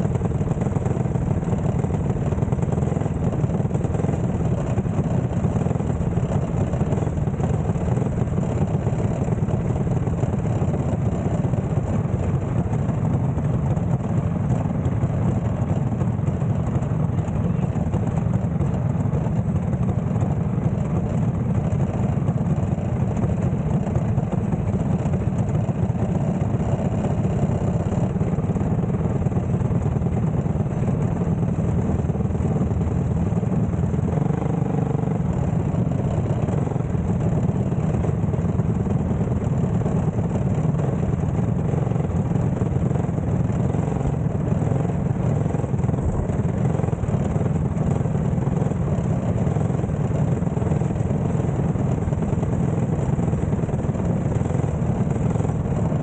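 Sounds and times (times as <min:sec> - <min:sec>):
racing car engine idling: 0:00.0 - 0:56.0.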